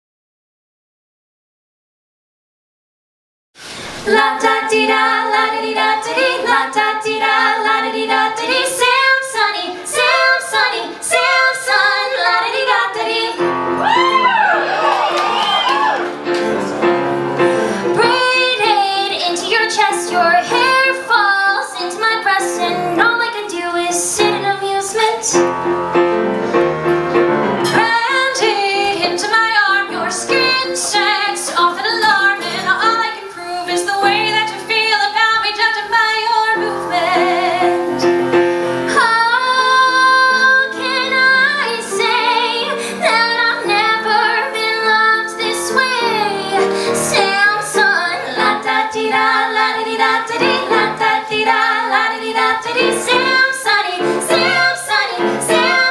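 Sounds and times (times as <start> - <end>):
women singing duet: 4.0 - 16.0, 17.8 - 25.4, 27.7 - 38.2, 38.8 - 55.9
piano accompaniment: 4.0 - 55.9.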